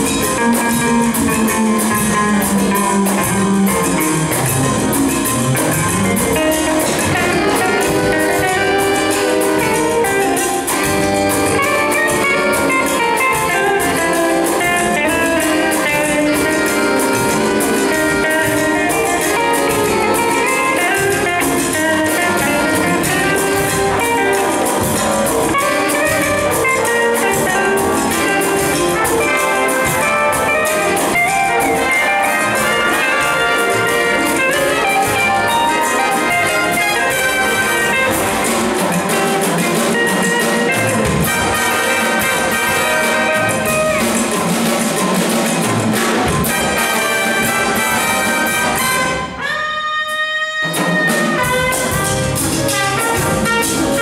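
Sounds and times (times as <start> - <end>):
steady cymbal beat: 0.0 - 49.4
brass and saxophones: 0.0 - 54.0
jazz big band playing: 0.0 - 54.0.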